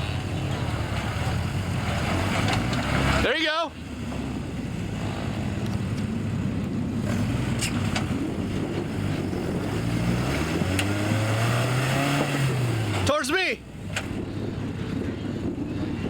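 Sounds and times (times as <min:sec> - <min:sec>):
truck engine at low revs: 0:00.0 - 0:16.0.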